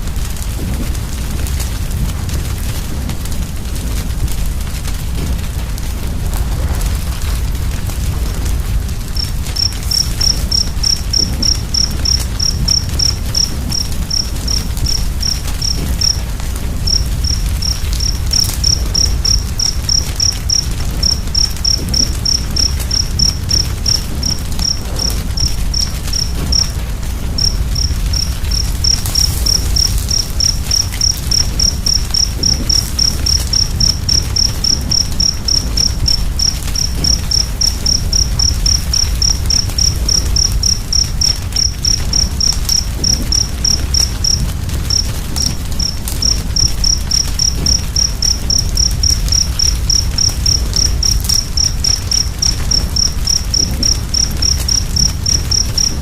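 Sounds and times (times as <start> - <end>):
cricket chirping: 0.0 - 56.0
fire crackling: 0.0 - 56.0.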